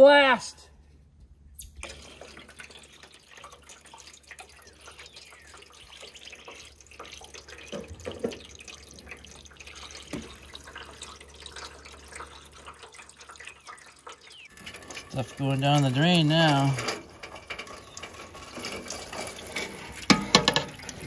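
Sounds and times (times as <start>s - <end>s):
water drips and splashes: 1.6s - 21.0s
water running along metal gutter: 1.8s - 21.0s.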